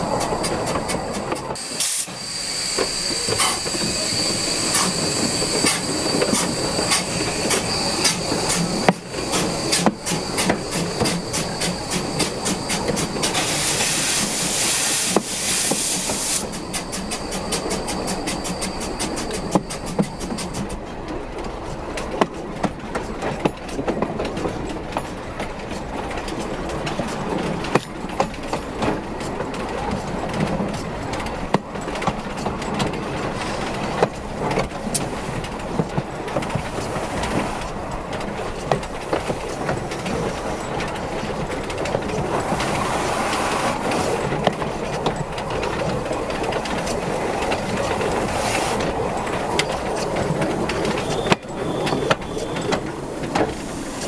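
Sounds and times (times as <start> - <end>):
steam locomotive running: 0.0 - 54.0
wheels clattering over rail joints: 2.8 - 54.0.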